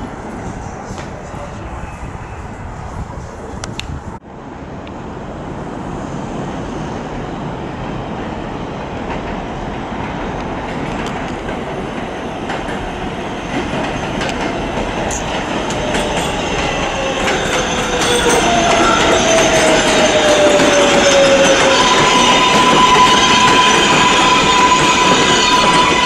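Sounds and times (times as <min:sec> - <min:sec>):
subway train running: 0:00.0 - 0:26.0.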